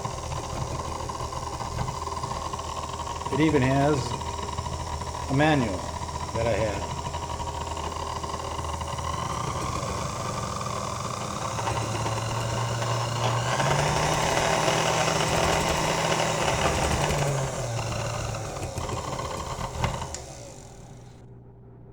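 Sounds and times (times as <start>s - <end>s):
stand mixer motor hum: 0.0s - 21.5s.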